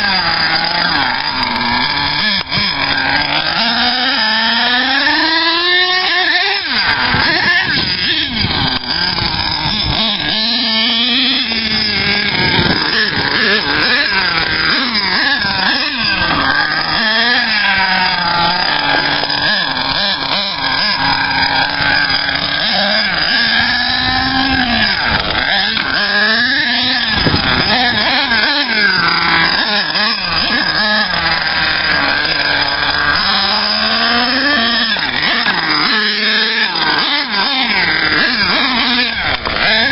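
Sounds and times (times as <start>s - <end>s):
model truck engine revving: 0.0s - 39.9s.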